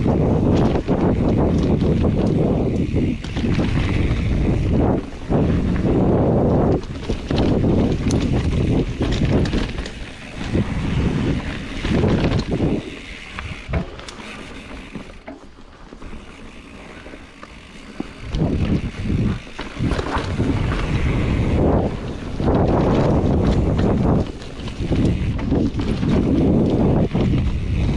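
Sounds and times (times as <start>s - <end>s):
wind buffeting microphone: 0.0s - 15.2s, 17.5s - 27.9s
bike clicks and rattles: 0.0s - 27.9s
bike tyres rolling on dirt: 0.0s - 27.9s.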